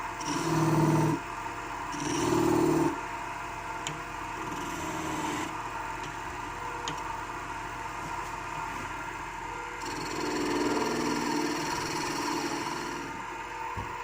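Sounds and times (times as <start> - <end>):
wood lathe humming: 0.0 - 13.8.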